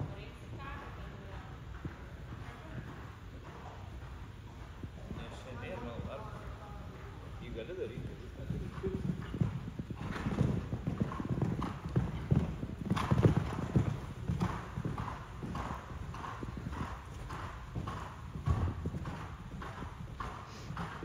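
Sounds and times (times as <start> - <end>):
horse hoofbeats on sand: 0.0 - 21.0.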